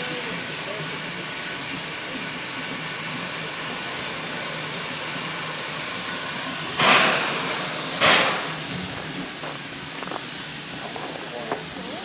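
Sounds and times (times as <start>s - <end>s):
loud gush of steam: 0.0s - 12.0s
steam locomotive hissing: 0.0s - 12.0s.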